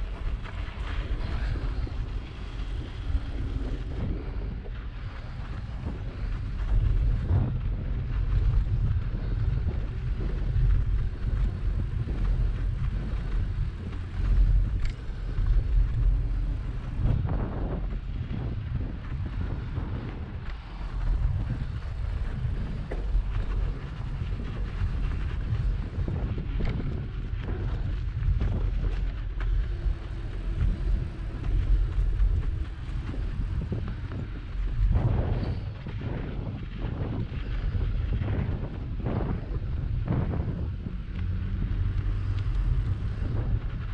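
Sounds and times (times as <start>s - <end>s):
bicycle ticks and snow crunches: 0.0s - 43.9s
wind rumbling on microphone: 0.0s - 43.9s.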